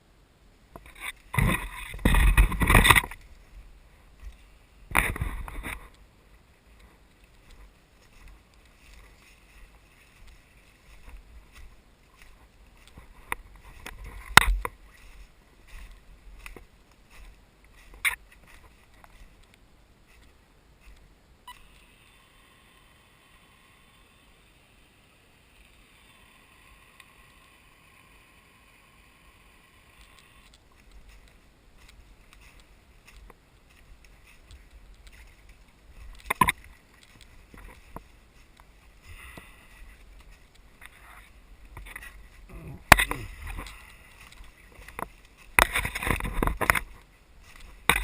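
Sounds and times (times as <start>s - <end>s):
steady faint tone: 0.0s - 48.0s.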